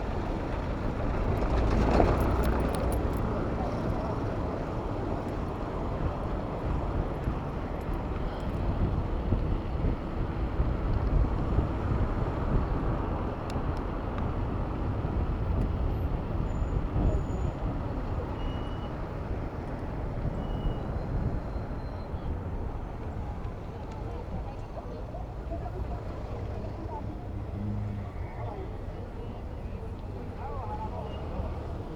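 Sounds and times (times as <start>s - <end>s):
city road traffic: 0.0s - 31.9s.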